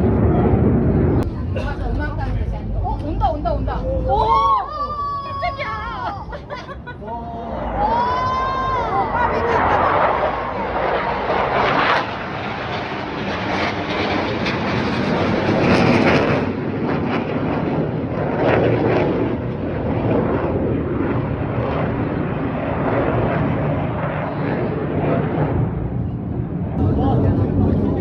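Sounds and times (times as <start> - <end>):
jet aircraft flying past: 0.0 - 28.0.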